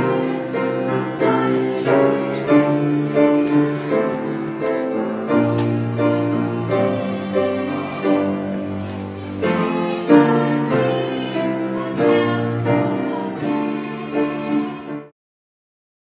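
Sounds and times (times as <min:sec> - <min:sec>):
piano chords: 0:00.0 - 0:15.1.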